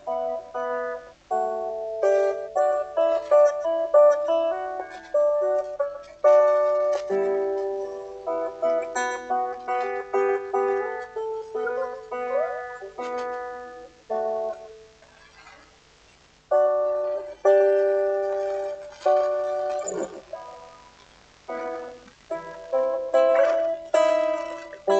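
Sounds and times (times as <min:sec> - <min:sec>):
guitar chords ringing: 0:00.0 - 0:15.0, 0:16.5 - 0:24.9
guitar picked notes: 0:00.0 - 0:15.6, 0:16.5 - 0:24.9.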